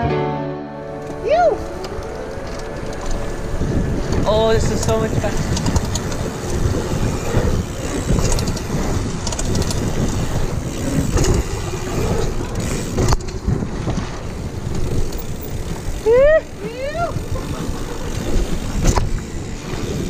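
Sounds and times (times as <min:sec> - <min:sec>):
bike rattling and clicking: 0:01.0 - 0:20.0
bike tyres rolling on dirt: 0:01.1 - 0:20.0
wind buffeting camera: 0:01.2 - 0:20.0.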